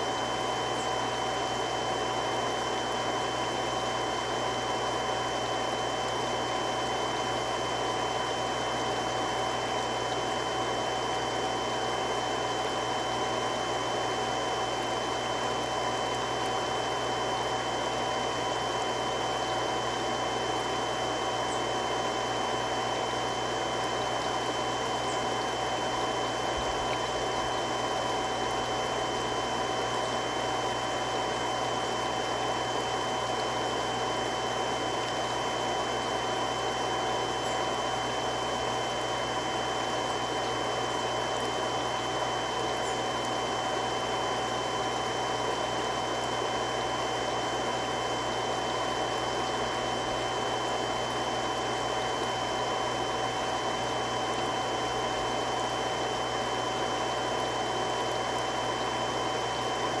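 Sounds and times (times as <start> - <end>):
water pump running: 0.0 - 60.0.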